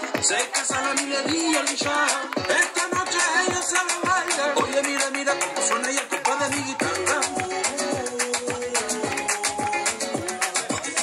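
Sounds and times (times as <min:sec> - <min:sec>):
flamenco-style dance music: 0:00.0 - 0:11.0.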